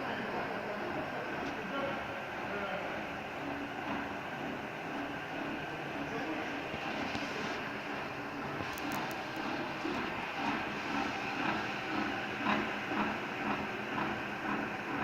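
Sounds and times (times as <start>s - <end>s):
milling machine cutting metal: 2.0s - 15.0s.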